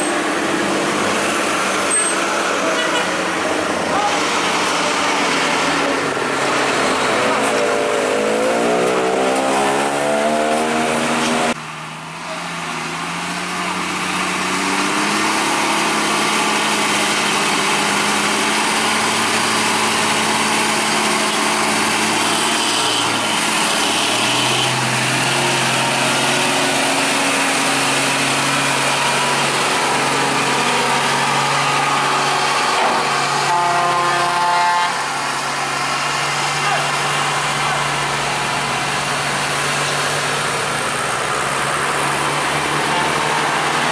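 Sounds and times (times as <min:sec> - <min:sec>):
heavy truck engine under load: 0:00.0 - 0:43.9.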